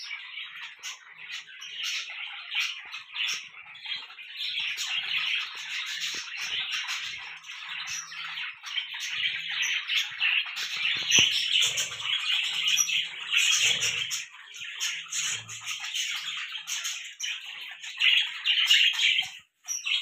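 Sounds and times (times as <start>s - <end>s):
budgerigars chattering and chirping: 0.0s - 20.0s.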